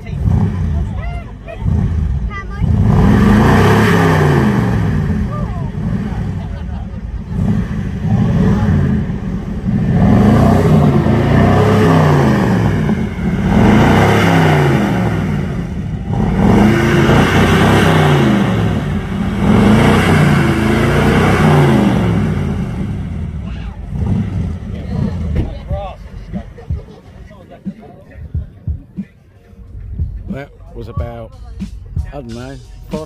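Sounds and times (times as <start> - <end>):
van engine revving: 0.0 - 33.0.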